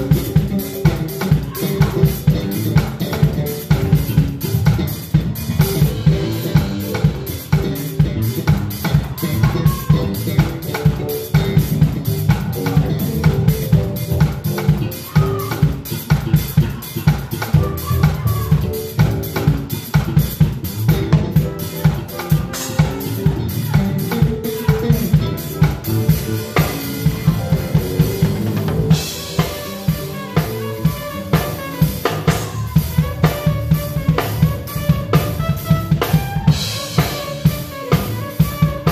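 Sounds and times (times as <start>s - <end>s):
drum kit groove: 0.0s - 38.9s
live band music: 0.0s - 38.9s.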